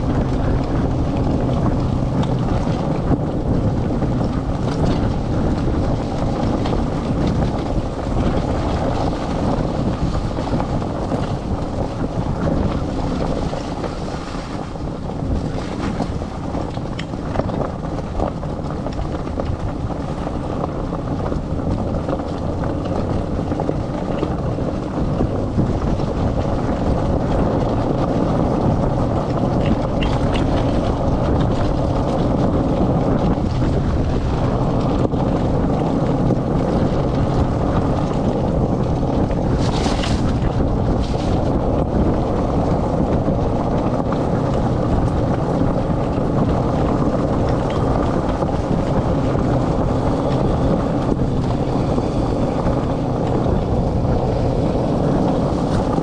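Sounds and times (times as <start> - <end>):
cart tyres rolling on dirt: 0.0 - 56.0
wind buffeting microphone: 0.0 - 56.0.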